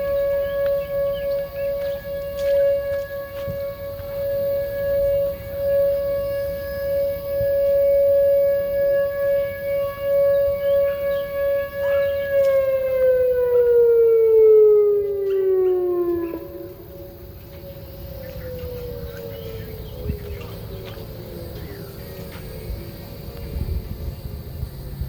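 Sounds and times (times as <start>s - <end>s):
distant siren: 0.0s - 25.0s
warning siren wailing: 0.0s - 25.0s.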